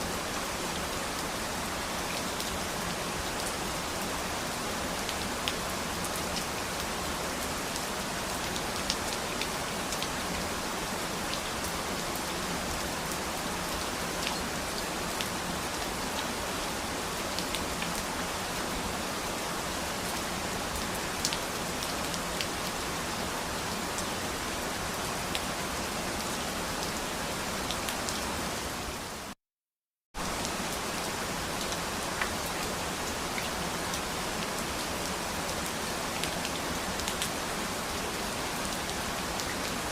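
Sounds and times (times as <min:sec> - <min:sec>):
steady rain falling: 0:00.0 - 0:29.4, 0:30.2 - 0:39.9.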